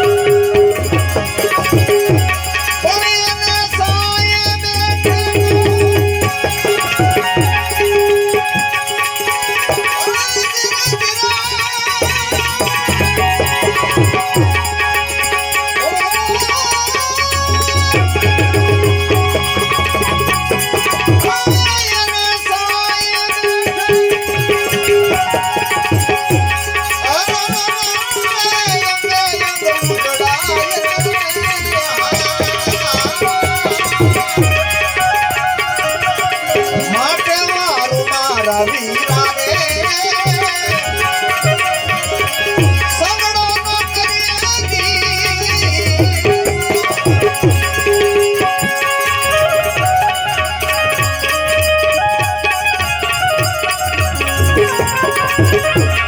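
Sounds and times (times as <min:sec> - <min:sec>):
sustained melody with vibrato: 0:00.0 - 0:56.0
tabla rhythm: 0:00.0 - 0:56.0.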